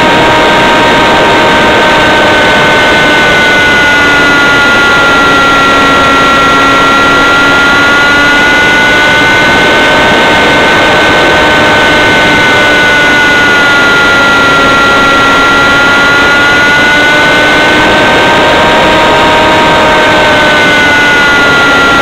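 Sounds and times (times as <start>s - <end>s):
model aircraft engine whine: 0.0s - 22.0s.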